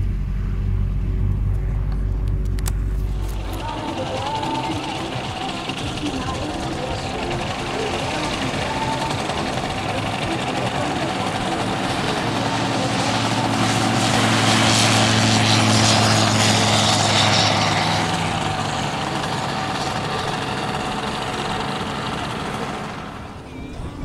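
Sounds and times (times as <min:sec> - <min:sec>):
ultralight airplane engine and propeller: 0:00.0 - 0:24.0.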